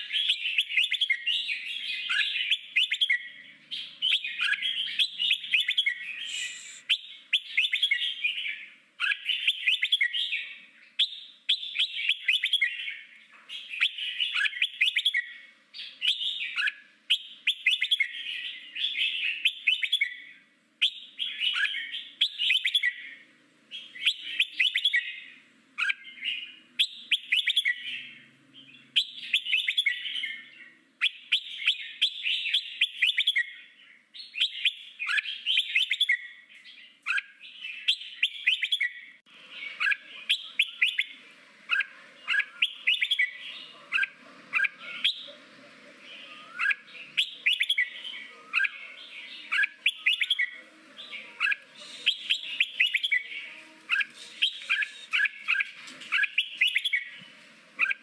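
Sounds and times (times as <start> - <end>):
bird singing chirping phrases: 0.0 - 58.0.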